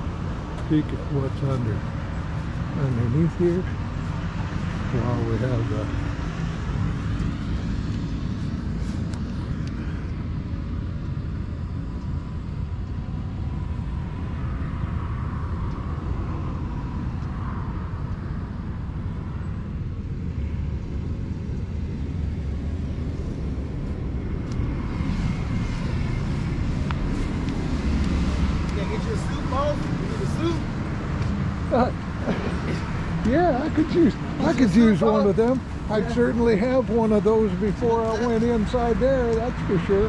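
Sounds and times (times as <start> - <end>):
low rumbling noise: 0.0 - 40.0.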